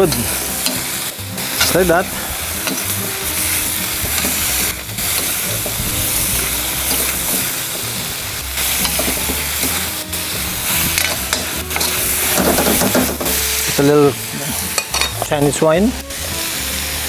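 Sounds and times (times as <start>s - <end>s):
metal spatula scraping wok: 0.0s - 15.5s
vegetables sizzling in oil: 0.0s - 17.0s.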